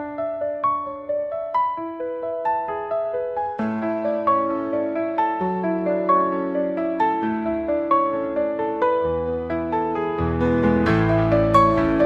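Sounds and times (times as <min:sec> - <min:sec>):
gentle piano notes: 0:00.0 - 0:12.0.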